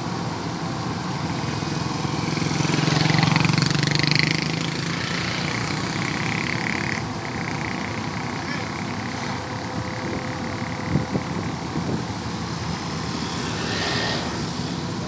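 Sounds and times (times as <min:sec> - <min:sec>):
diesel engine idling: 0:00.0 - 0:15.0
motorcycle passing: 0:00.9 - 0:15.0.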